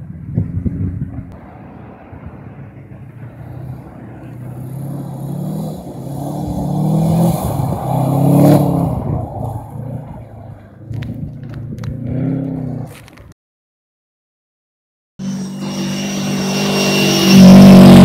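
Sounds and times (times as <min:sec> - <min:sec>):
car engine revving: 0:00.9 - 0:13.0, 0:15.2 - 0:18.0.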